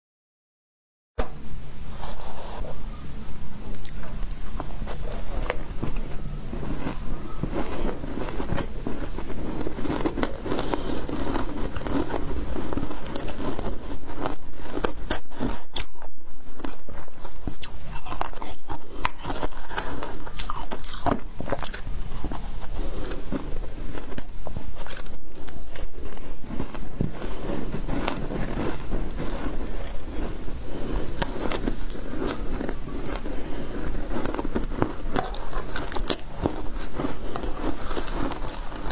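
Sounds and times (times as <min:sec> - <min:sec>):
ice crunching while chewed: 0:03.7 - 0:38.9.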